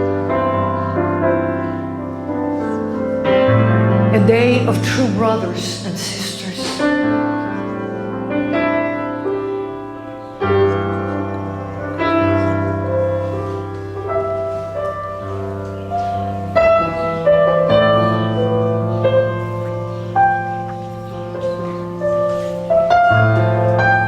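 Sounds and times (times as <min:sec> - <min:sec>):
slow worship music on piano: 0:00.0 - 0:24.0.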